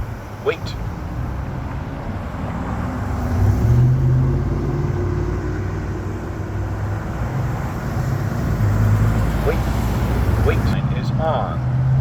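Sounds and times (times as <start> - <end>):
tyre and road noise: 0.0 - 12.0
vehicle engine hum: 0.0 - 12.0.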